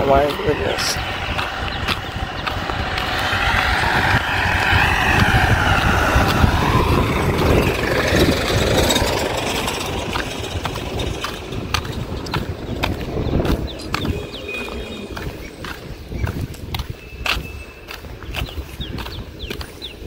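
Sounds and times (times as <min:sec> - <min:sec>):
vehicle passing by: 0:00.0 - 0:16.4.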